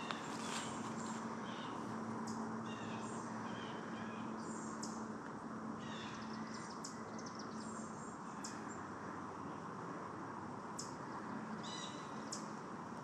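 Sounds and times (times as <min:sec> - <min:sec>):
songbirds chirping and trilling: 0:00.0 - 0:09.8, 0:10.4 - 0:12.8.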